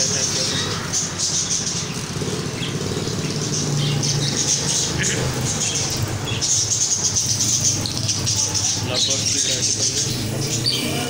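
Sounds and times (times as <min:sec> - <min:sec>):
finches chirping: 0:00.0 - 0:11.0.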